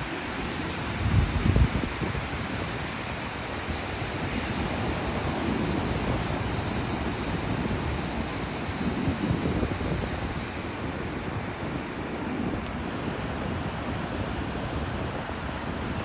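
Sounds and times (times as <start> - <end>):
ocean waves washing ashore: 0.0 - 16.0.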